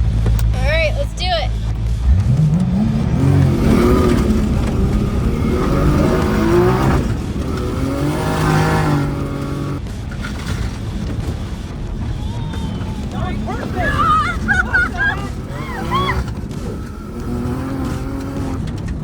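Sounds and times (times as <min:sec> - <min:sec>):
car engine revving hard: 0:00.0 - 0:19.0.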